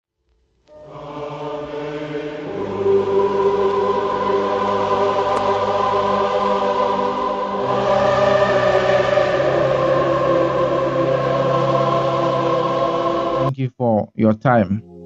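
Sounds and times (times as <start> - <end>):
choir-like background music: 0.7 - 13.5, 14.8 - 15.0.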